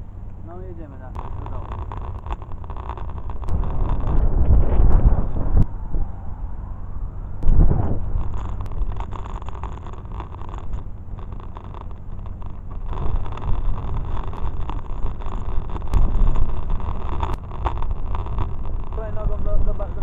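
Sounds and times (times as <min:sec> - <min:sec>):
low rumble: 0:00.0 - 0:20.0
wind buffeting microphone: 0:01.1 - 0:20.0.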